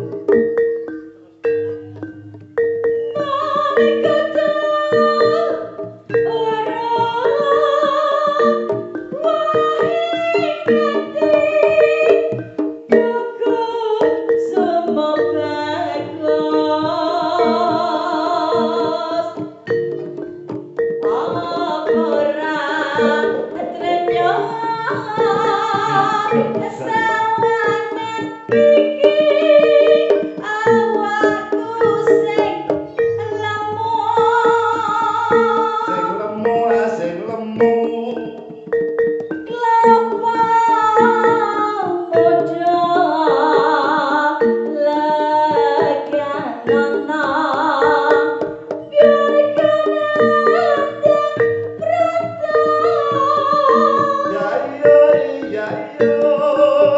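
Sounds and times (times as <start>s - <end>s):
repeating struck notes: 0.0s - 56.9s
woman singing: 3.1s - 19.7s, 21.0s - 38.8s, 39.4s - 56.9s.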